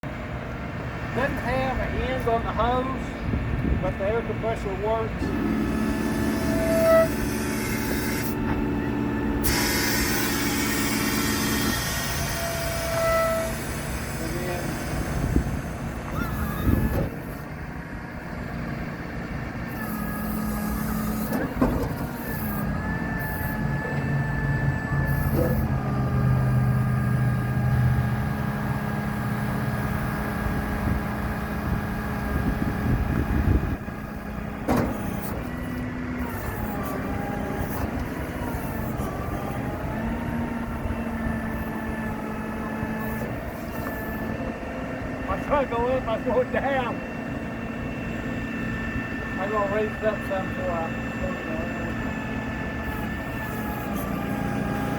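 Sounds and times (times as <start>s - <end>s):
truck engine hydraulic whine: 0.0s - 54.9s.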